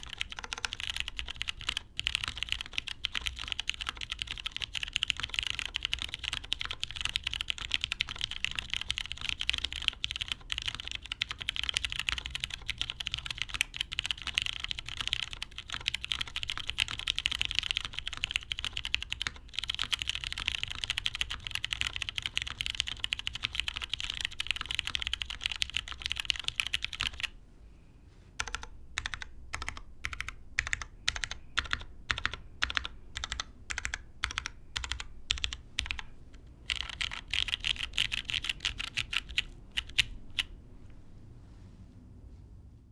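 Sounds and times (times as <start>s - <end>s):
fast typing on mechanical keyboard: 0.0s - 27.4s, 28.4s - 40.6s.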